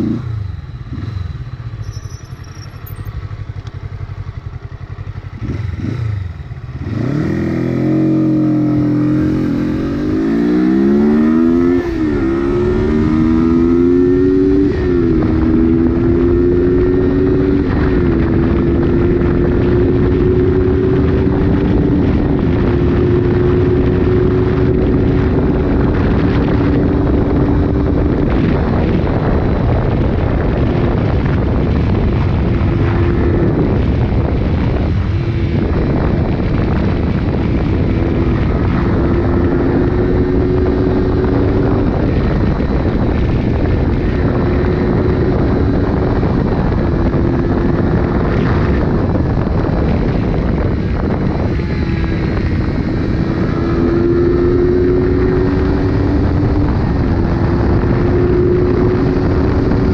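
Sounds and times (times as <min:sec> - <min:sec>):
wind buffeting microphone: 0:03.1 - 0:59.9.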